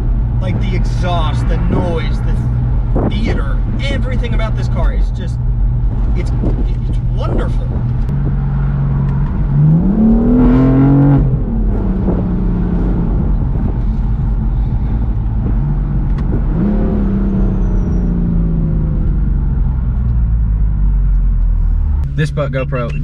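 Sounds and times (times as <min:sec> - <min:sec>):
car engine accelerating: 0:00.0 - 0:23.0
low road rumble: 0:00.0 - 0:23.0.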